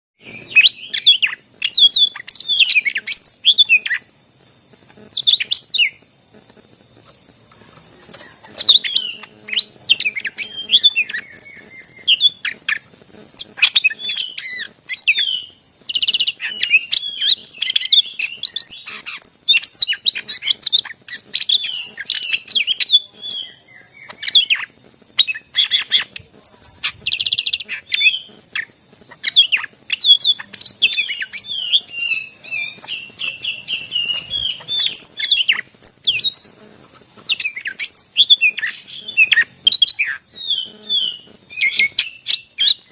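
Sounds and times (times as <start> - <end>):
bird singing whistles and trills: 0.2 - 4.1, 5.1 - 6.0, 8.2 - 36.6, 37.3 - 42.9.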